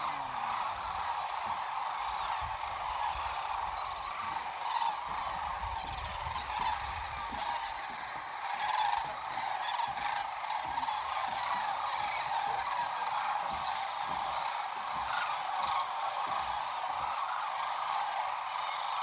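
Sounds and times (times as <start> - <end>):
cranes calling in flight: 0.0 - 19.0.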